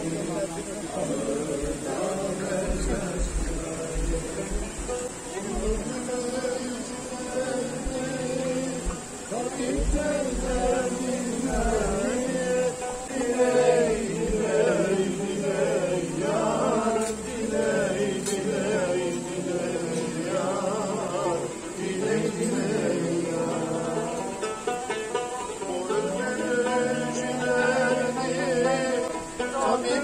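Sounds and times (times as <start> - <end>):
men singing: 0.0 - 30.0.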